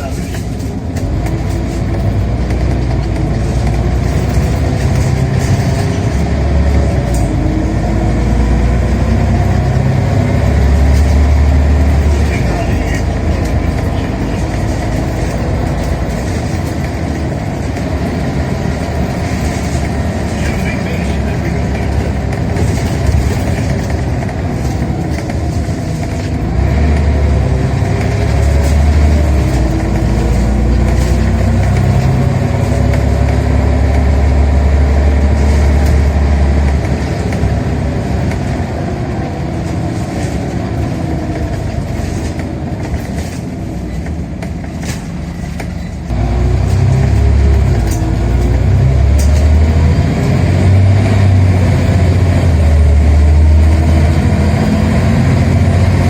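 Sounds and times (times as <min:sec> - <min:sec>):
bus engine rumbling: 0:00.0 - 0:56.0.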